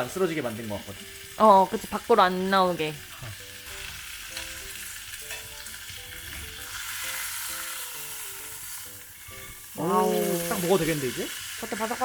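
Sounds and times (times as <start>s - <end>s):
soft background music: 0.0s - 12.0s
steak sizzling in a pan: 0.0s - 12.0s
wood fire crackles: 0.0s - 12.0s.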